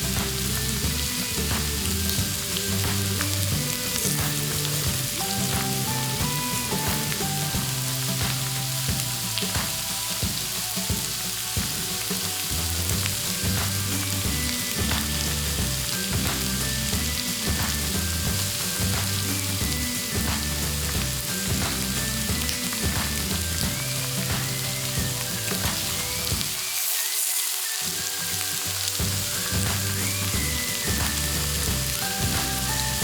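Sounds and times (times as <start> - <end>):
meat sizzling on grill pan: 0.0 - 33.0.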